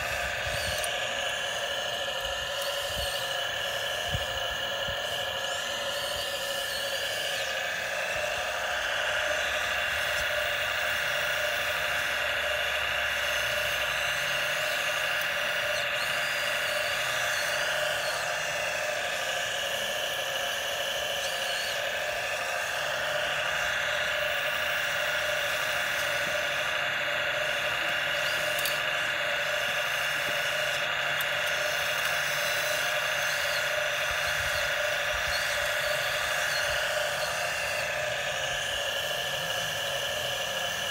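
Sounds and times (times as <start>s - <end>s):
small electric motors whining: 0.0s - 40.9s.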